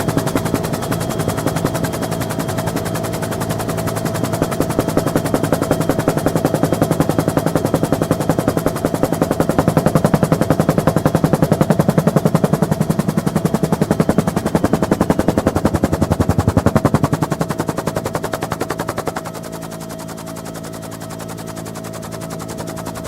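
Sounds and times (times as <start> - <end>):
helicopter engine drone: 0.0 - 23.0
helicopter rotor blade chop: 0.0 - 23.0.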